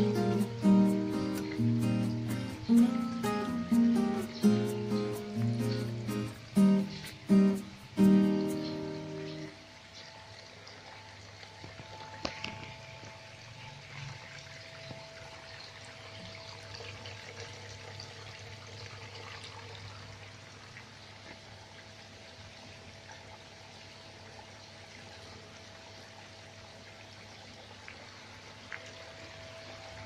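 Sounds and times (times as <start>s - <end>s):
low steady hum: 0.0s - 30.0s
water trickling through pipes: 0.0s - 30.0s.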